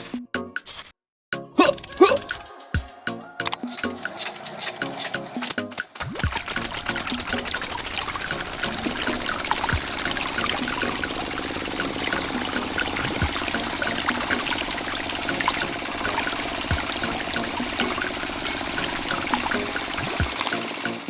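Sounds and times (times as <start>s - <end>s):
small motor running: 3.5s - 21.0s
water pouring and trickling: 3.5s - 21.0s.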